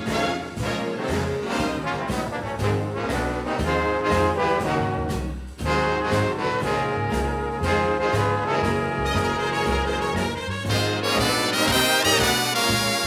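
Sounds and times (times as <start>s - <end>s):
upbeat brass music: 0.0s - 13.0s.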